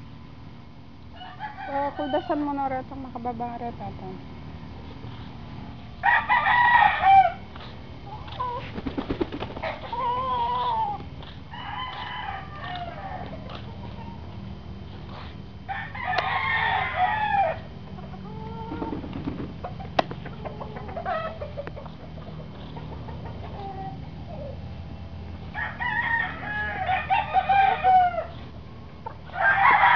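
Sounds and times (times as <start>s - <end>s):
roosters crowing: 1.0s - 2.8s, 5.1s - 29.9s.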